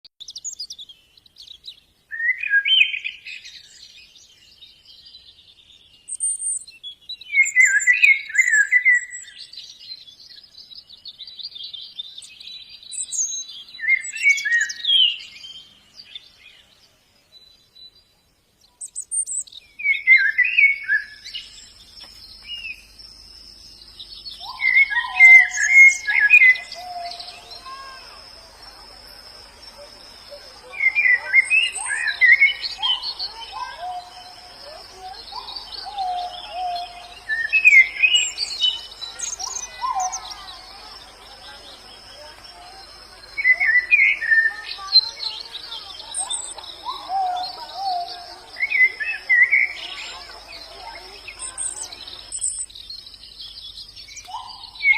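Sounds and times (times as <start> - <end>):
bird twittering song: 0.2 - 54.9.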